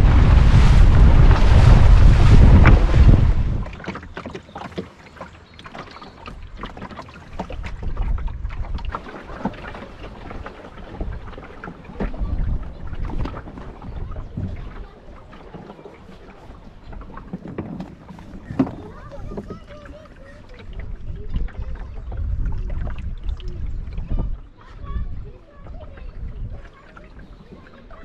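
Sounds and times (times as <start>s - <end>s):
wind on microphone: 0.0s - 4.1s, 7.3s - 15.6s, 16.6s - 28.0s
water splashing against hull: 0.0s - 28.0s.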